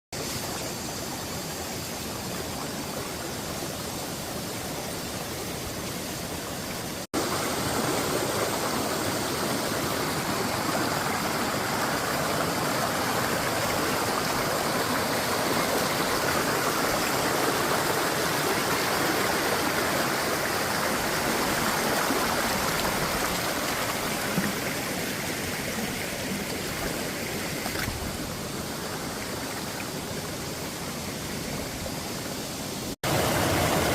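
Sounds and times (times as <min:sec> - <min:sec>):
running water rushing: 0:00.2 - 0:33.9.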